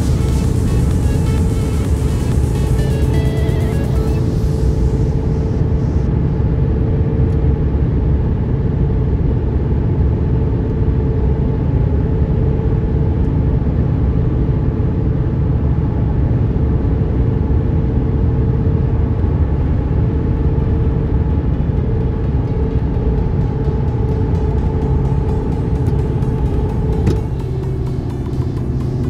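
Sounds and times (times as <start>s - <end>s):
vehicle road rumble: 0.0s - 29.0s.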